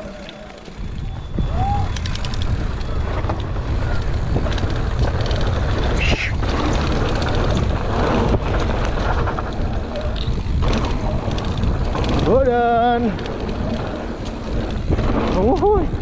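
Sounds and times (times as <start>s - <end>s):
tyres on trail: 0.0s - 16.0s
wind buffeting microphone: 0.7s - 16.0s
bike knocks and rattles: 1.6s - 16.0s.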